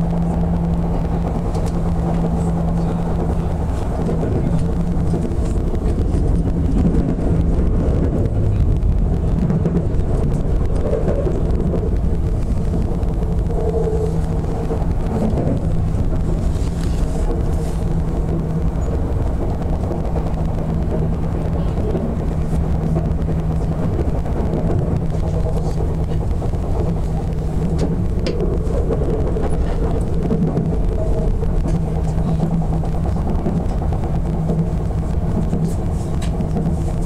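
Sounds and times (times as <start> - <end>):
train motor hum: 0.0 - 37.0
train wheels rumbling on rail: 0.0 - 37.0.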